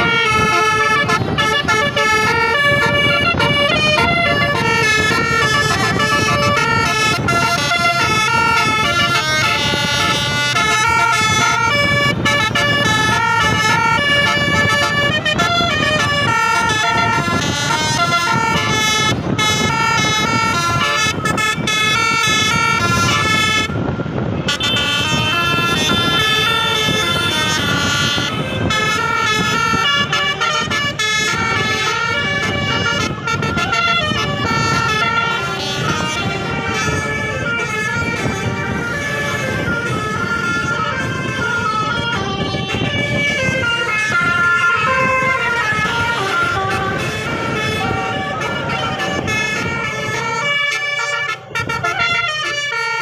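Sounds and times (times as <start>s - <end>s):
bus and road rumble: 0.0s - 53.0s
multi-tone bus air horn tune: 0.0s - 53.0s.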